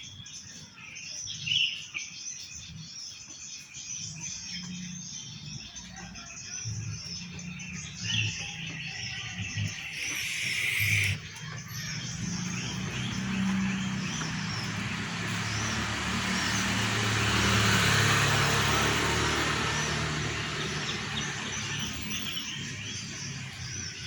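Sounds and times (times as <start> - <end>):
small birds chirping: 0.0 - 24.0
vehicle passing by: 4.2 - 24.0.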